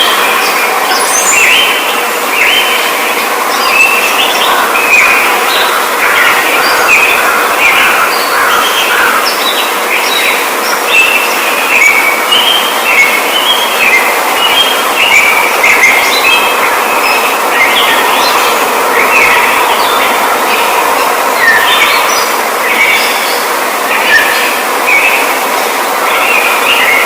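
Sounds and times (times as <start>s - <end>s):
flock of birds chirping: 0.0s - 27.0s
steady hiss: 0.0s - 27.0s.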